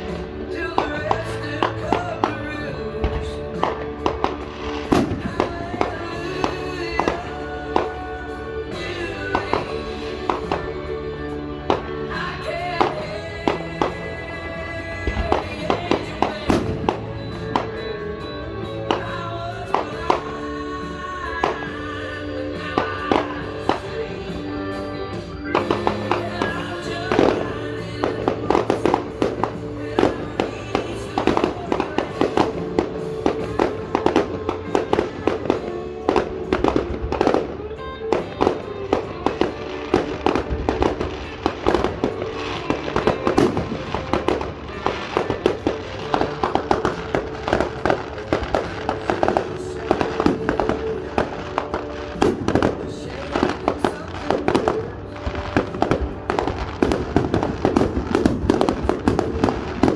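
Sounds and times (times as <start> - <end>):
fireworks bangs and crackles: 0.0 - 59.9
music playing: 0.0 - 59.9.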